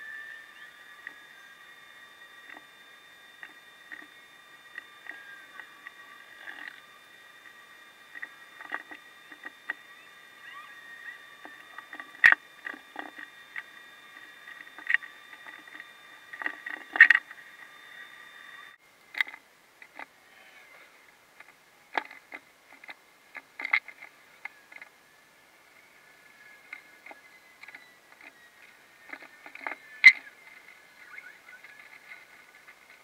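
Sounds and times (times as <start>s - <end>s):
faint steady hum: 0.0s - 33.0s
small clicks and knocks: 2.4s - 2.8s, 3.4s - 18.1s, 19.0s - 20.1s, 21.4s - 24.9s, 25.8s - 33.0s.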